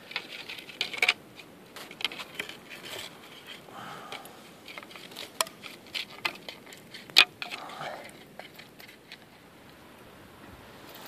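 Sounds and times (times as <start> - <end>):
stick scraping in metal tin: 0.0 - 9.4.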